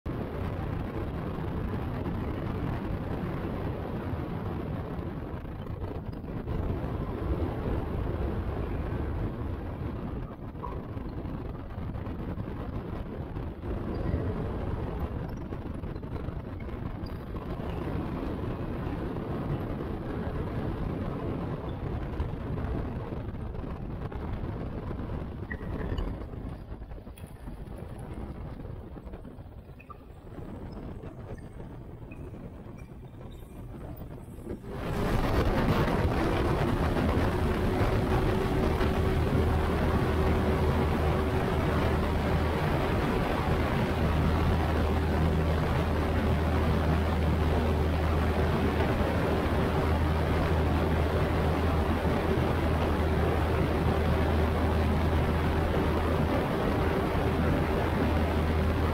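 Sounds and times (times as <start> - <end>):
airflow buffeting microphone: 0.0 - 58.9
propeller plane engine humming: 0.1 - 58.9.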